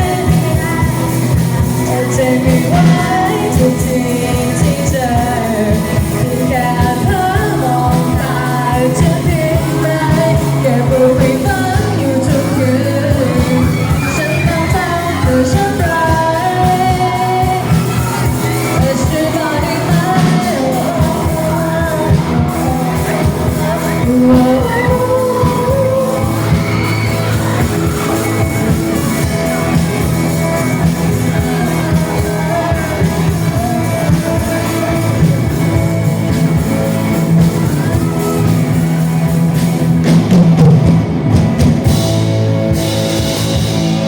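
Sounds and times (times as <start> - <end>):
person singing: 0.0 - 40.6
pop-rock band music: 0.0 - 44.0.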